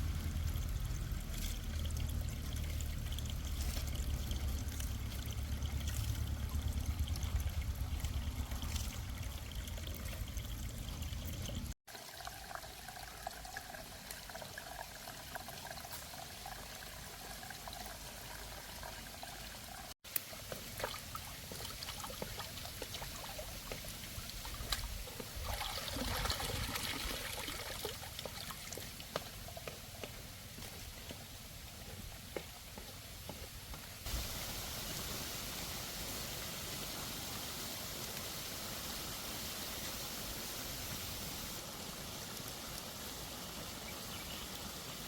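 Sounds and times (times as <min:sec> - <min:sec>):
water pouring and trickling: 0:00.0 - 0:32.8, 0:34.0 - 0:45.0.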